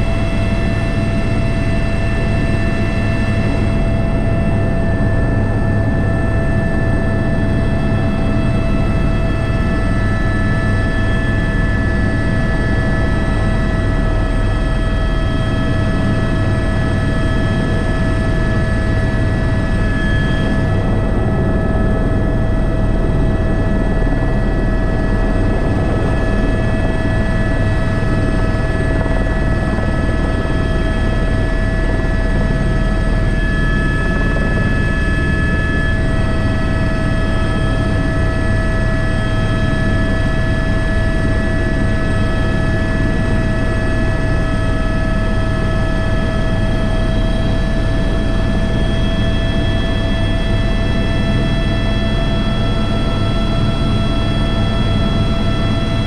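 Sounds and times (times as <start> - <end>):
helicopter rotor rumble: 0.0 - 56.0
helicopter turbine whine: 0.0 - 56.0.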